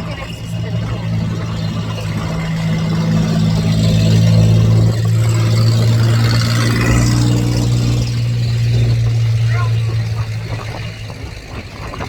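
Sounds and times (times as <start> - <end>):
vehicle engine idling: 0.0 - 12.0
wind on microphone: 0.0 - 12.0.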